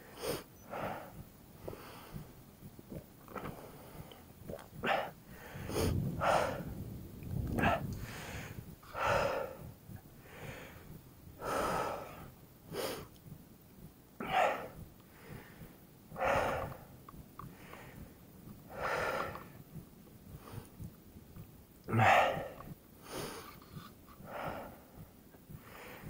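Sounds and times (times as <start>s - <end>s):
person breathing hard: 0.0s - 6.8s, 7.6s - 13.2s, 14.2s - 21.0s, 21.9s - 26.0s.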